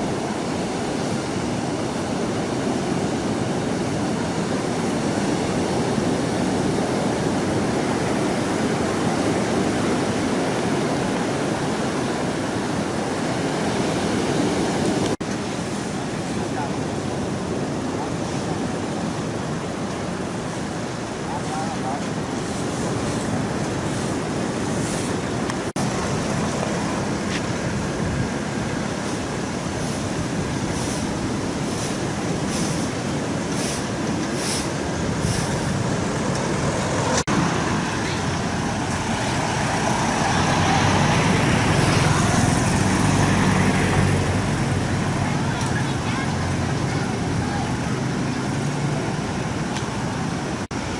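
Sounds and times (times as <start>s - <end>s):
rough surf rushing: 0.0s - 50.9s
strong wind: 0.0s - 50.9s.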